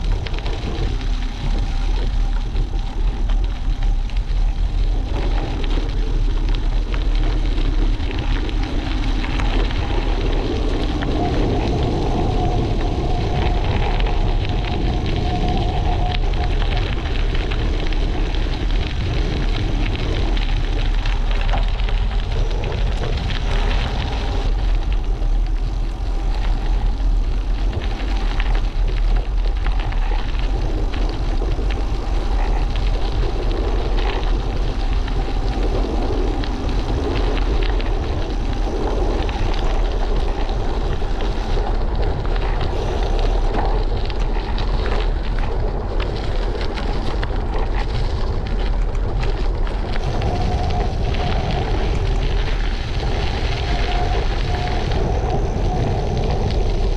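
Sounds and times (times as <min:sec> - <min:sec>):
bicycle tyres on road: 0:00.0 - 0:56.9
wind buffeting microphone: 0:00.0 - 0:56.9.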